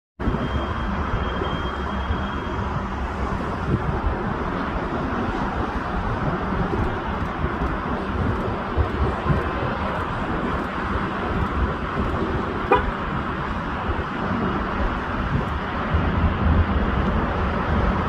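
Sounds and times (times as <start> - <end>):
jet engine roar: 0.2 - 18.0
wind buffeting microphone: 0.2 - 18.0.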